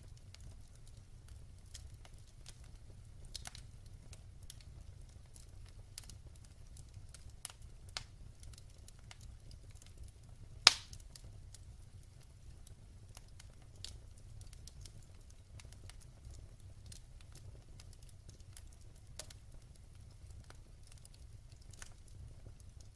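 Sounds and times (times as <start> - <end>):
wood fire crackling: 0.0 - 22.9.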